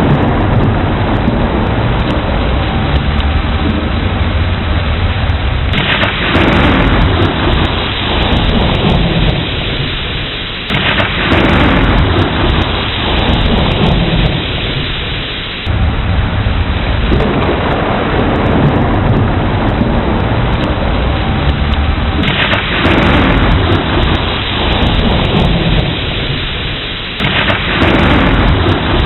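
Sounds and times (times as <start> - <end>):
deep rolling thunder: 0.0 - 29.0
heavy rain: 0.0 - 29.0.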